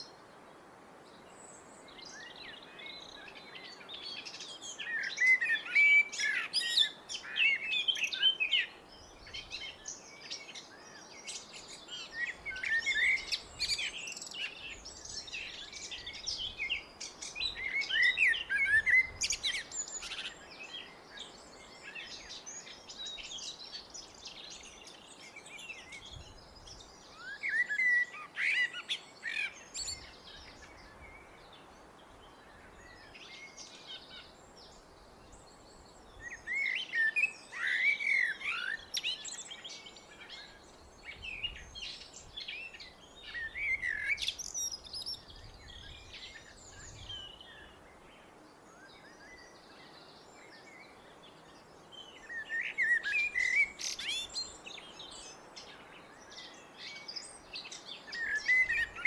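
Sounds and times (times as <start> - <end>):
blackbird singing: 1.4 - 31.4, 35.7 - 47.8, 48.7 - 59.0.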